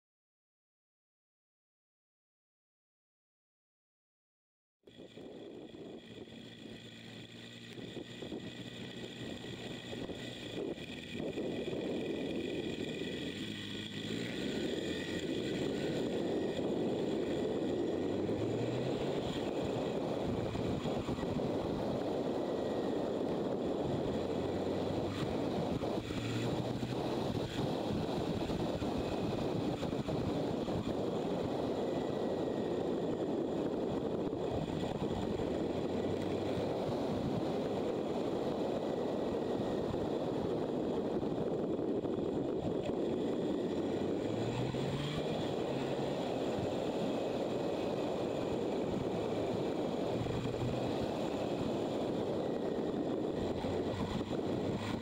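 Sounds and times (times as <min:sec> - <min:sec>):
motorcycle engine running: 0:04.9 - 0:55.0
wind rushing over microphone: 0:04.9 - 0:55.0.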